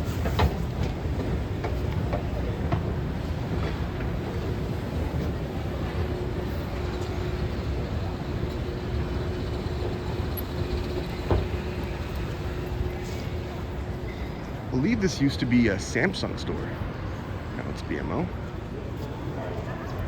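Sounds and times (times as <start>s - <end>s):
low rumble of machinery or traffic: 0.0s - 20.0s.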